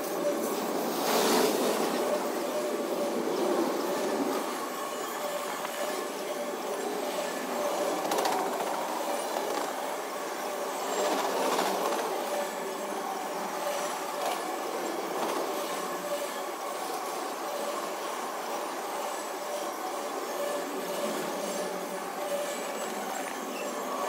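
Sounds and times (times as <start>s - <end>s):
rail cars clunking: 0.0s - 24.0s
train wheels on rail: 0.0s - 24.0s.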